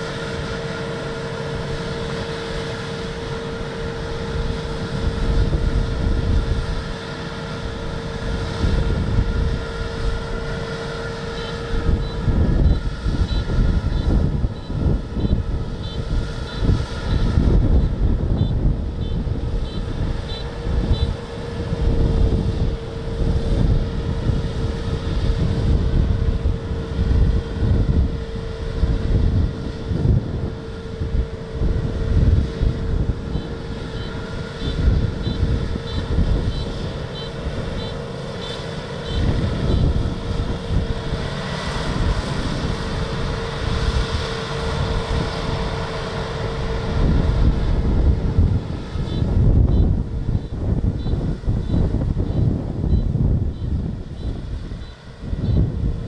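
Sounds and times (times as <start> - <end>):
combine harvester whine: 0.0 - 56.0
wind buffeting microphone: 0.5 - 56.0.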